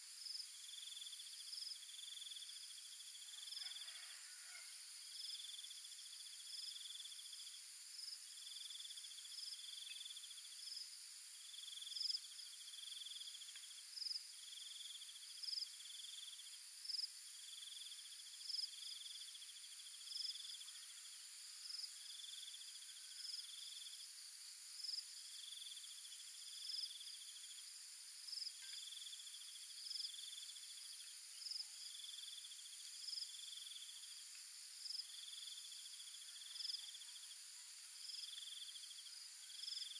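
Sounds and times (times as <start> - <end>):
high insect chirps: 0.0 - 39.9
insects buzzing: 0.0 - 39.9.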